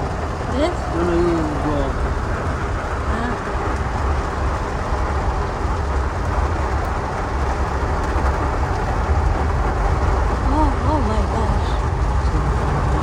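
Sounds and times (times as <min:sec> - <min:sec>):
car rumble: 0:00.0 - 0:13.0
heavy rain on car: 0:00.0 - 0:13.0.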